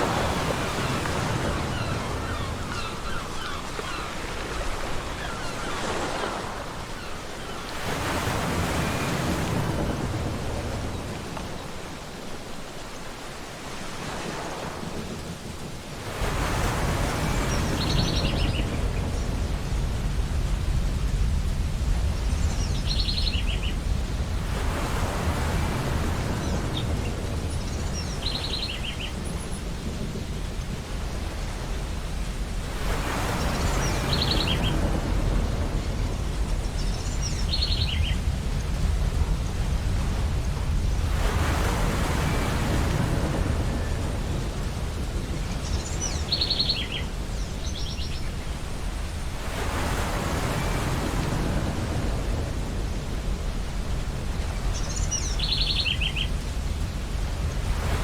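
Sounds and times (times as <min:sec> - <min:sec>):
low rumble of surf: 0:00.0 - 0:58.0
ocean waves breaking: 0:00.0 - 0:58.0.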